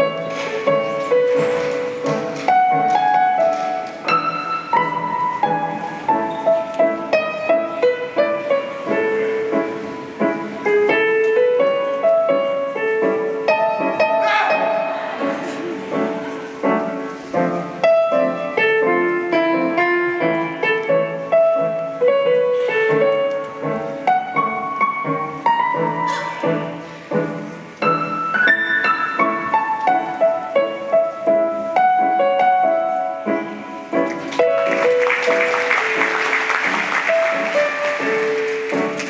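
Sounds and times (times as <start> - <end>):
piano melody: 0.0 - 39.0.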